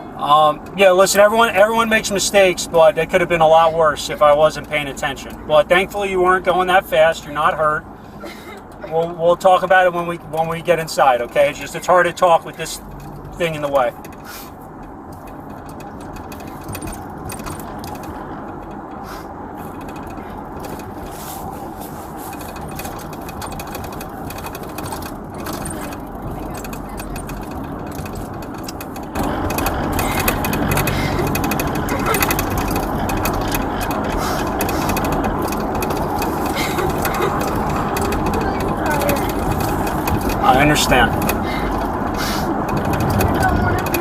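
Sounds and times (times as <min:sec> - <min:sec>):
road and engine rumble in car: 0:00.0 - 0:44.0.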